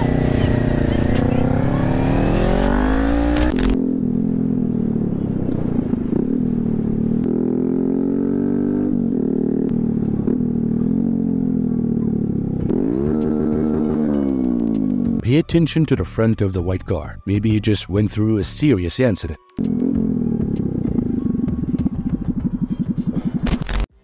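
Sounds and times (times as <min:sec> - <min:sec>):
motorcycle engine revving: 0:00.0 - 0:15.2, 0:19.6 - 0:23.9.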